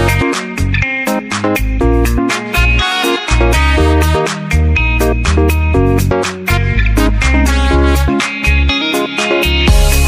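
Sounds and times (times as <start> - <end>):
deep bass line: 0.0 - 8.8, 9.5 - 10.0
plucked melody notes: 0.0 - 10.0.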